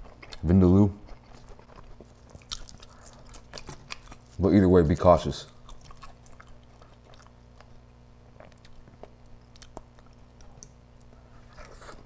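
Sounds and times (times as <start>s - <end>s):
chewing sounds: 0.0s - 12.0s.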